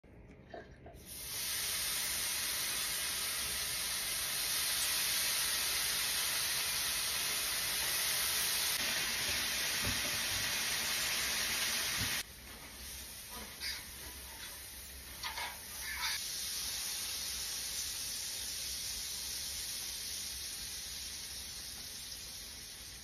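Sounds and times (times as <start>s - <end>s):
bacon sizzling on a griddle: 1.1s - 23.0s.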